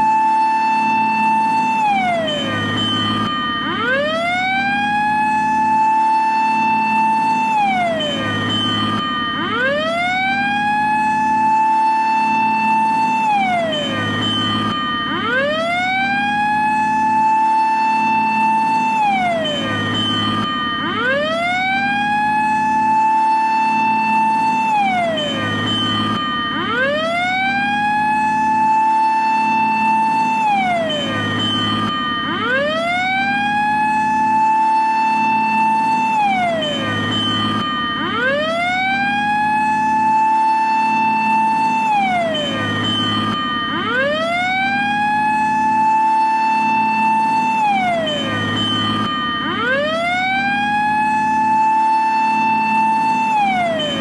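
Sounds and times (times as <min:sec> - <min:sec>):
fire engine siren wailing: 0:00.0 - 0:54.0.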